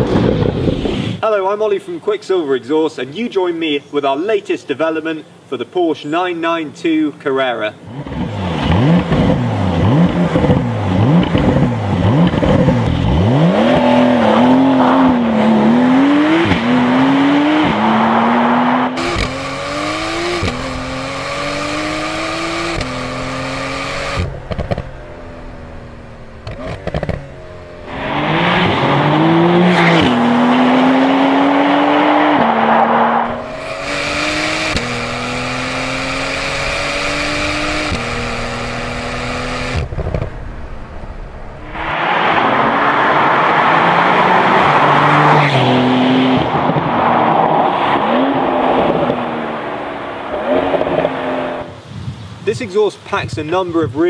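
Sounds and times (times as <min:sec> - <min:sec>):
car engine accelerating through gears: 0:07.9 - 0:51.8.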